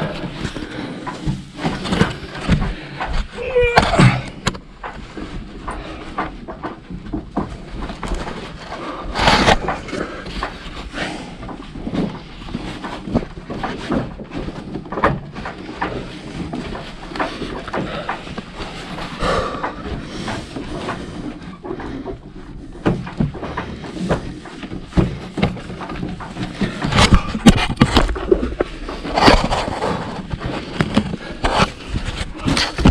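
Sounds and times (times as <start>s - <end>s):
knocks and scrapes on wooden ladder: 0.0s - 32.9s.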